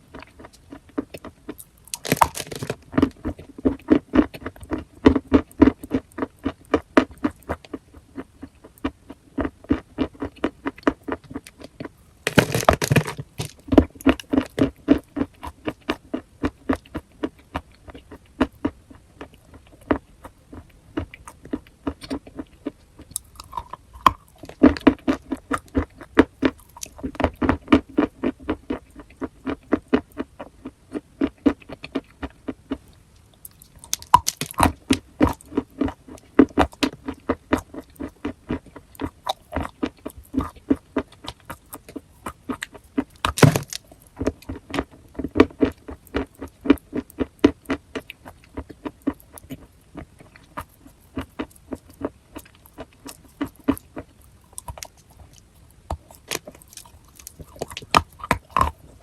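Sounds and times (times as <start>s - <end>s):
chewing and crunching chalk: 0.0s - 59.0s.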